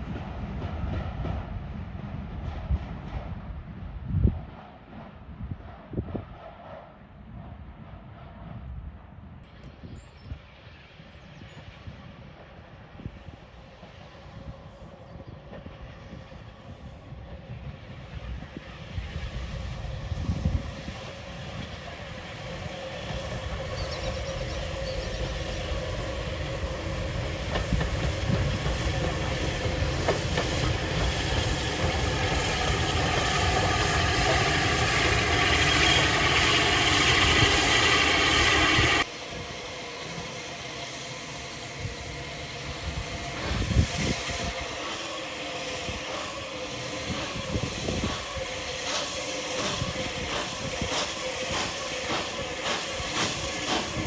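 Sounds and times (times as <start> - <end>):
rail sound: 0.0 - 54.0
train approaching: 0.0 - 54.0.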